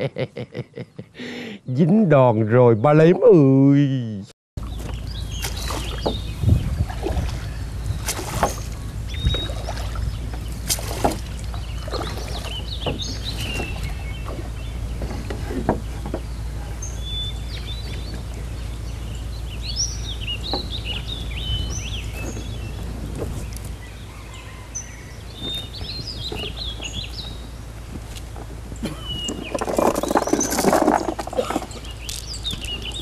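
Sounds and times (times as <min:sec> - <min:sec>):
small birds chirping: 0:04.6 - 0:33.0.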